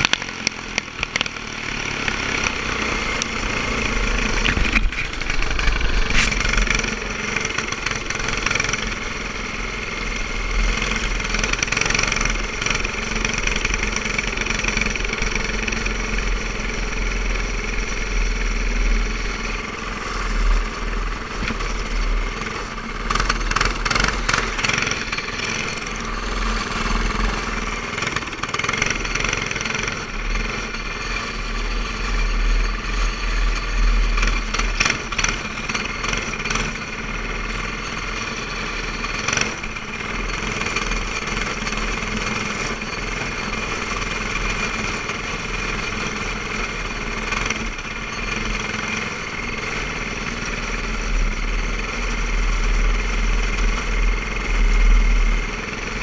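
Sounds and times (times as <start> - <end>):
go-kart engine racing: 0.0 - 56.0.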